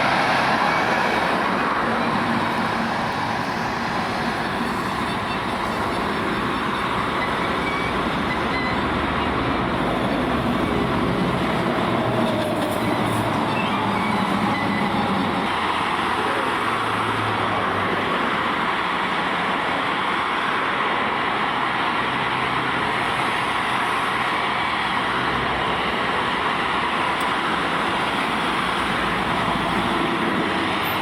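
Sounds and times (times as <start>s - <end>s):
dense vehicle noise: 0.0s - 31.0s.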